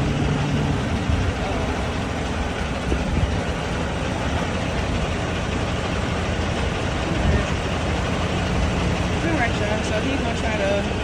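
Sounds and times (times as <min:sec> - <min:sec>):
heavy vehicle engine rumble: 0:00.0 - 0:11.0.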